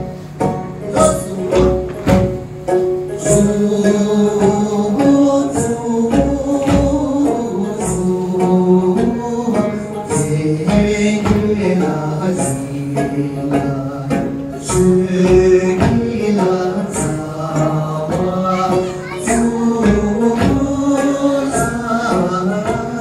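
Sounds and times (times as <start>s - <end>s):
steady rhythmic beat: 0.0s - 23.0s
group singing: 0.8s - 23.0s.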